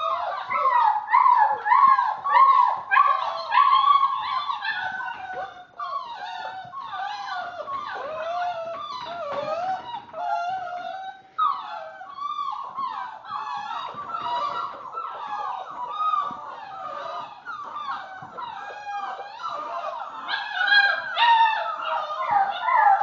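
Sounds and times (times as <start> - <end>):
puppies whining and crying: 0.0 - 23.0.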